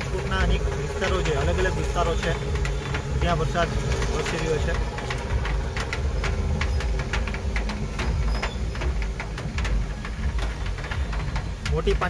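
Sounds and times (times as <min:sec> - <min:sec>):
heavy rain striking glass: 0:00.0 - 0:12.0
vehicle engine rumbling: 0:00.0 - 0:12.0.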